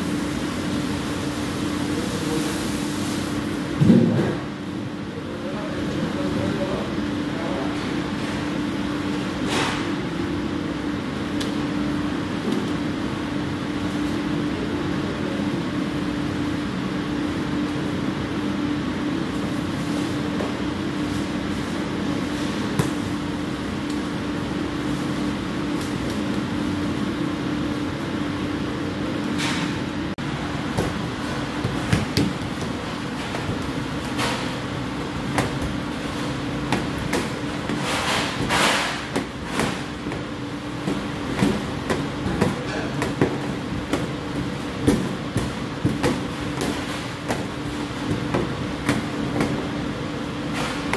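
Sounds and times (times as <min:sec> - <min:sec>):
kitchen machinery hum: 0:00.0 - 0:50.9.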